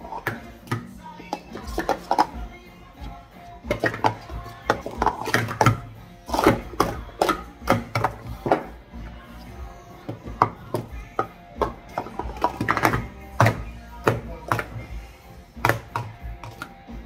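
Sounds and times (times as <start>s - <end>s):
plastic cups clacking: 0.0s - 17.0s.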